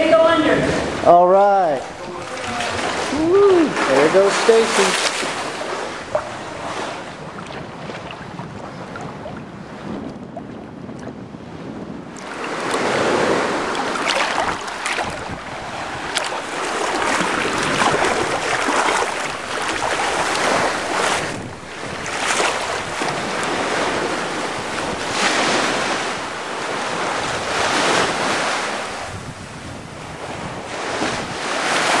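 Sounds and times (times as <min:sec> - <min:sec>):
wind buffeting microphone: 0:00.0 - 0:32.0
sea water washing and splashing: 0:00.6 - 0:10.5, 0:12.1 - 0:32.0.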